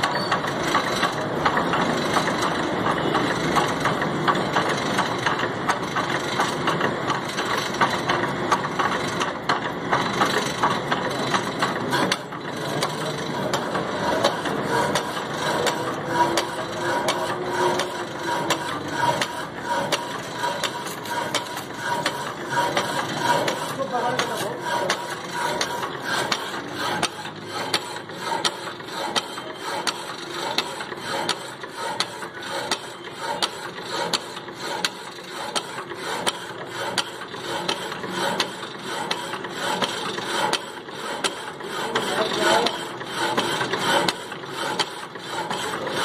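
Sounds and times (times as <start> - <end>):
band saw grinding through metal: 0.0 - 46.0
band saw ticking: 0.3 - 46.0.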